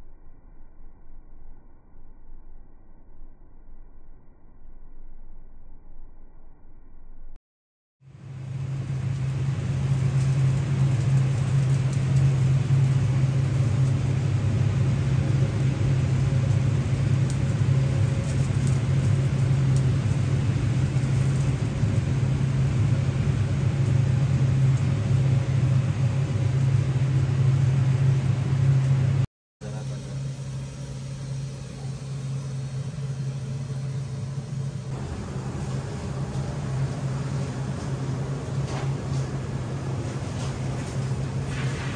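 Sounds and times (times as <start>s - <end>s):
charcoal fire roaring: 8.0s - 41.9s
faint fire crackles: 8.0s - 41.9s.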